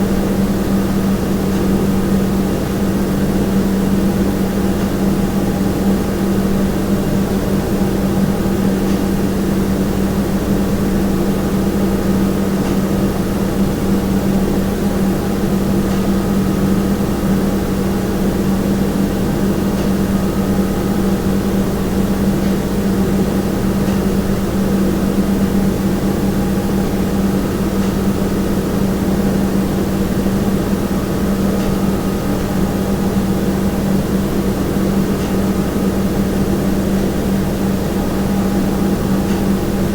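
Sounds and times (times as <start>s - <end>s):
low appliance hum: 0.0s - 39.9s.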